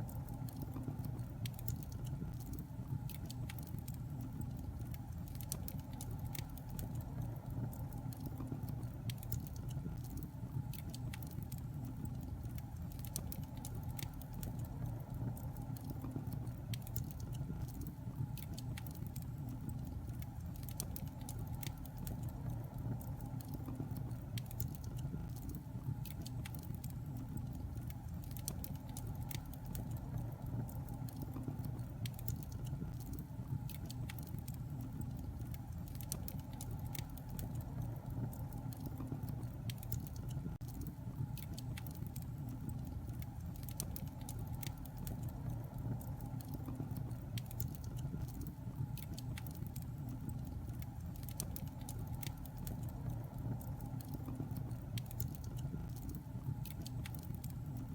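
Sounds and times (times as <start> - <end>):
fire crackling and popping: 0.0 - 57.9
low rumble of flames: 0.0 - 57.9.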